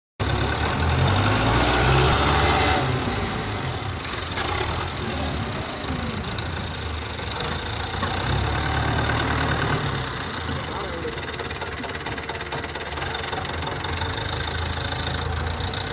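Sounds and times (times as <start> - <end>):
tractor diesel engine running: 0.2 - 15.9.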